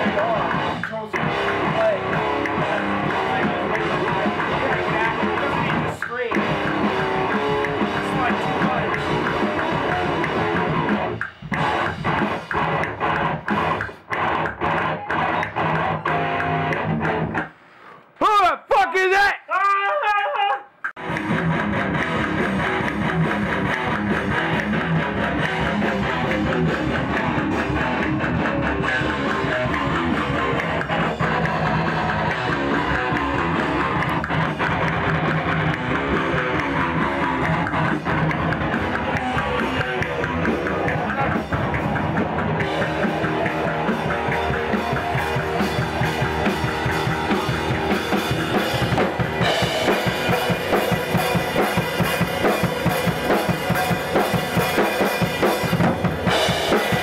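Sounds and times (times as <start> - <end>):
metal music with drums and guitars: 0.0 - 17.5, 21.0 - 57.0.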